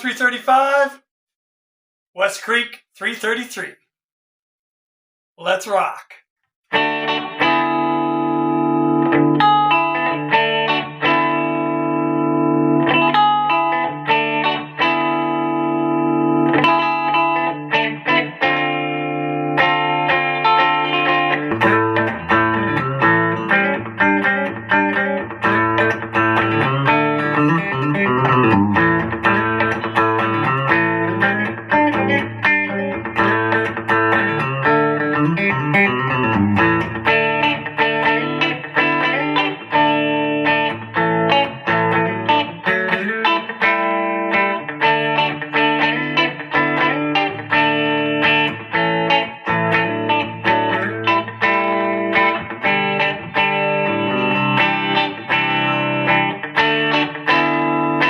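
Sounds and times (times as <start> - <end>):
amplified electric guitar: 6.7 - 58.0.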